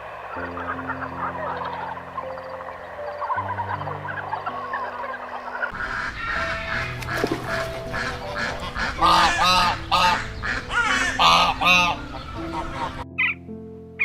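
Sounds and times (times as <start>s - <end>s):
background music with held notes: 0.0s - 14.0s
bird calling rapidly: 0.3s - 13.4s.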